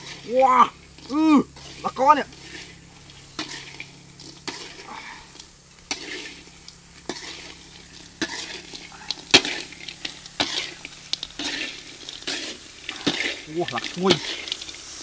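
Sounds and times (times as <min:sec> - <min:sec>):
food sizzling in wok: 0:00.0 - 0:15.0
metal spatula scraping pan: 0:01.5 - 0:04.9, 0:05.9 - 0:14.8.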